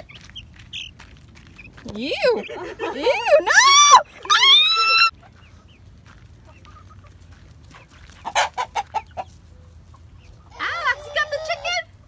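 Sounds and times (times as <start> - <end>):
hen clucking: 0.0 - 3.5, 4.2 - 11.9.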